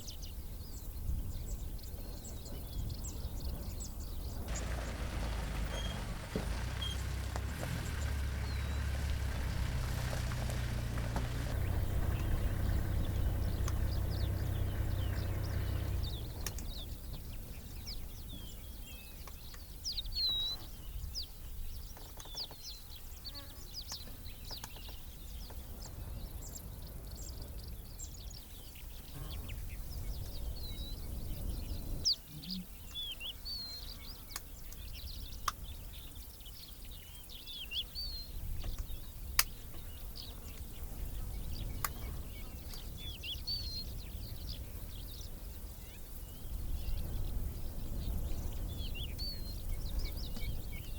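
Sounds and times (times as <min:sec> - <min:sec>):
birds chirping: 0:00.0 - 0:50.9
low wind rumble: 0:00.1 - 0:21.9, 0:24.3 - 0:33.0, 0:38.1 - 0:50.9.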